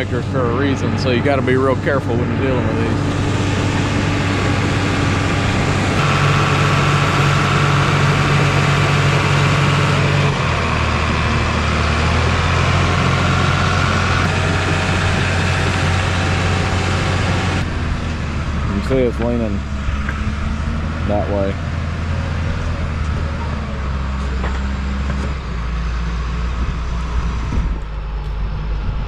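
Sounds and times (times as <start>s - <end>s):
bulldozer diesel engine running: 0.0s - 29.0s
high whine: 0.0s - 29.0s.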